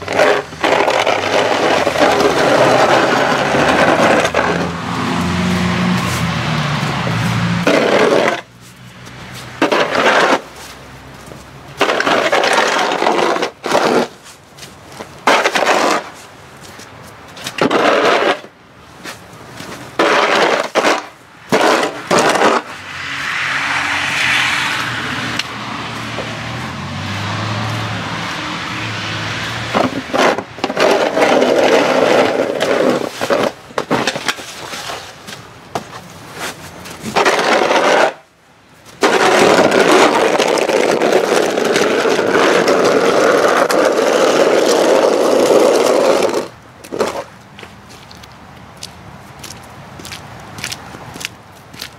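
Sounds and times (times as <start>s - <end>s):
steady rushing noise: 0.0s - 47.3s
snow shovel scraping asphalt: 0.0s - 48.2s.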